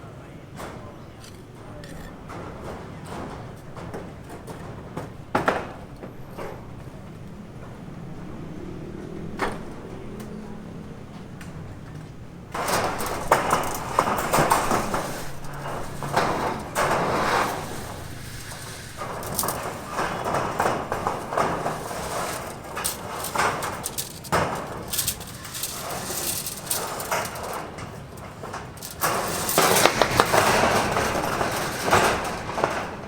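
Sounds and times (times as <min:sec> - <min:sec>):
scraping and knocking of hand tools: 0:00.6 - 0:07.2, 0:12.5 - 0:33.0.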